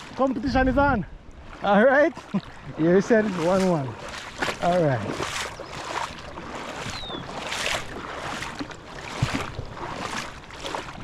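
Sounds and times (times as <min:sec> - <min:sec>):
fast-flowing river water: 0:00.0 - 0:11.0
wind buffeting microphone: 0:00.0 - 0:11.0.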